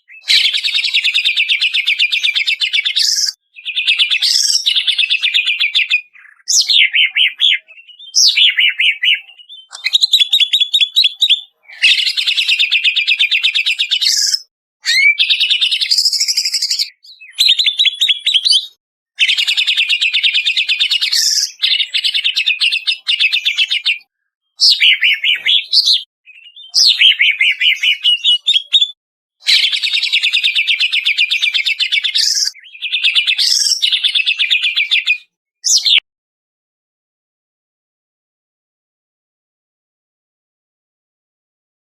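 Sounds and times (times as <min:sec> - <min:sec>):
bird singing trills and whistles: 0:00.0 - 0:36.0.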